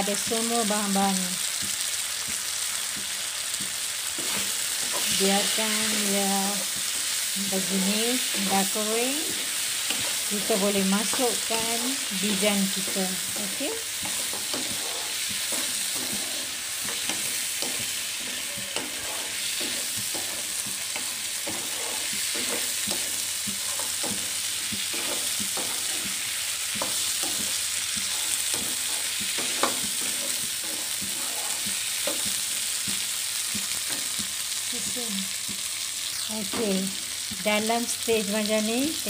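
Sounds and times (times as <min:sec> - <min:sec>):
food sizzling in butter: 0:00.0 - 0:39.0
wooden spatula scraping a pan: 0:03.0 - 0:34.4.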